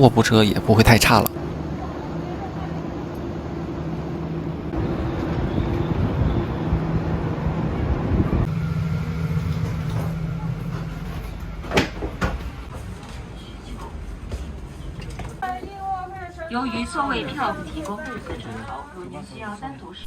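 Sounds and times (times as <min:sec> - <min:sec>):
train carriage mechanical hum: 0:00.0 - 0:20.0.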